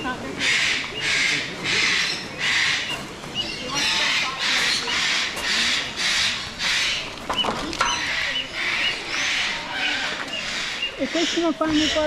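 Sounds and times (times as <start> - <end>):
bird raspy squawks: 0.4 - 12.0.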